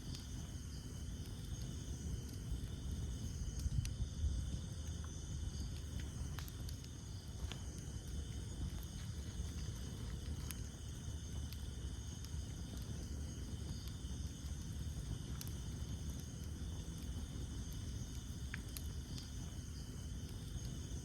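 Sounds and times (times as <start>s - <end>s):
campfire flames rumbling: 0.0s - 21.0s
fire crackling and popping: 0.0s - 21.0s
night insects chirring: 0.0s - 21.0s.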